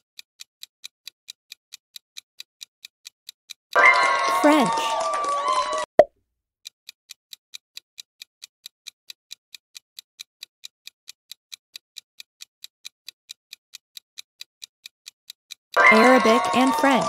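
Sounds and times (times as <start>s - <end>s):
rapid clock ticks: 0.0s - 4.9s, 6.6s - 17.0s.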